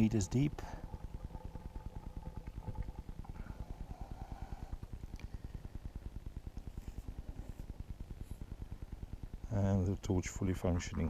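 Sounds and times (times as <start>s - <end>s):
low mechanical throbbing: 0.0s - 11.0s.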